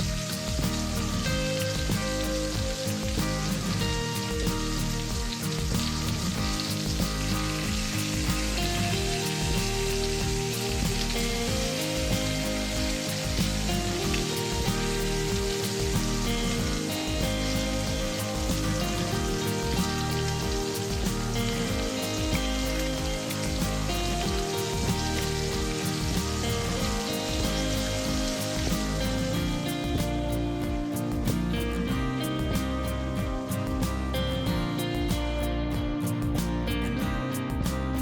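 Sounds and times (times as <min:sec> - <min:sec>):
background music: 0:00.0 - 0:38.0
food sizzling in hot oil: 0:00.0 - 0:38.0.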